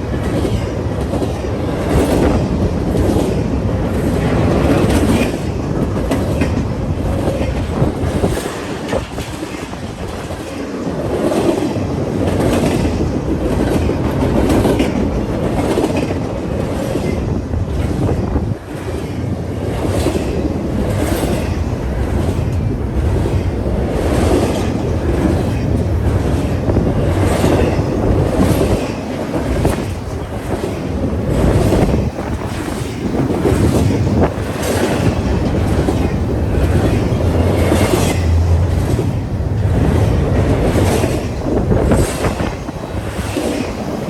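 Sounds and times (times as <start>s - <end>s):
train wheels clacking on rails: 0.0s - 44.0s
wind buffeting microphone: 0.0s - 44.0s.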